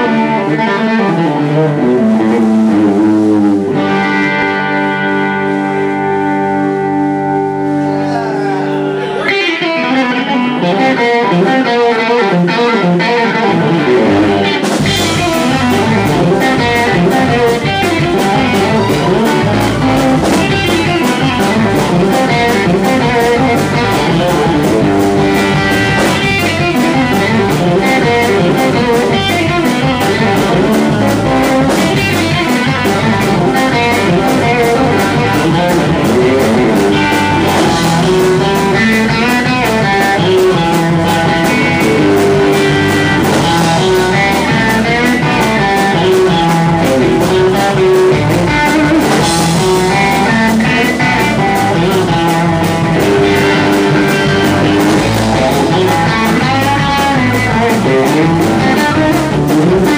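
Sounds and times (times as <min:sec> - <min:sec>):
bass guitar: 0:00.0 - 0:59.9
drum kit: 0:00.0 - 0:59.9
electric guitar lead lines: 0:00.0 - 0:59.9.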